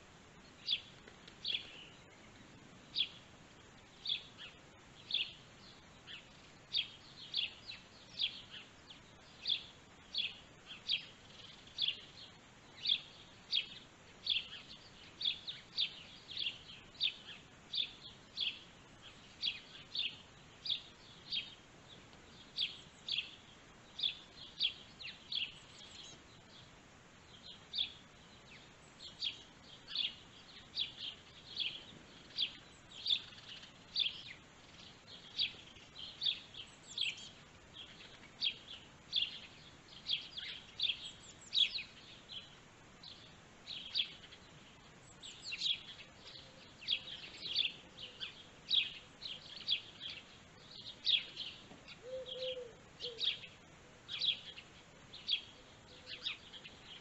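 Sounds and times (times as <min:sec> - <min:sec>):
bird chirping: 0:00.4 - 0:57.0.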